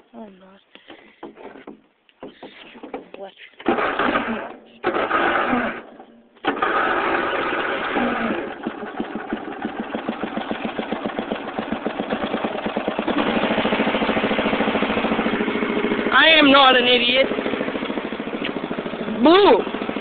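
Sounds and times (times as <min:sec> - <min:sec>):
small engine starting and running: 0:03.6 - 0:20.0.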